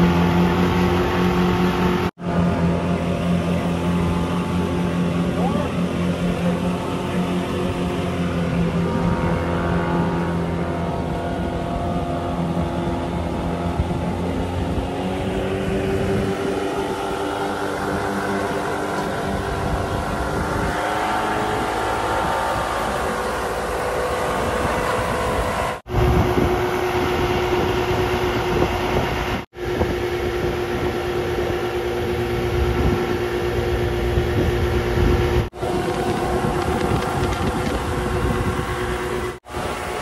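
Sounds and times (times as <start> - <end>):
outboard motor running: 0.0 - 40.0
water rushing from wake: 0.0 - 40.0
wind: 0.0 - 40.0.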